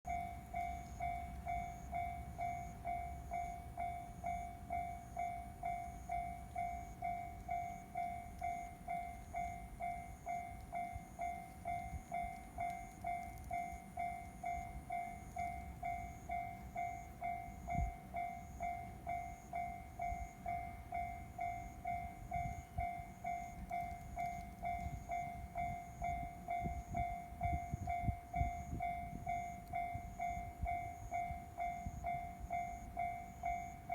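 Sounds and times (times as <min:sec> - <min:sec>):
level crossing alarm ringing: 0:00.1 - 0:33.9.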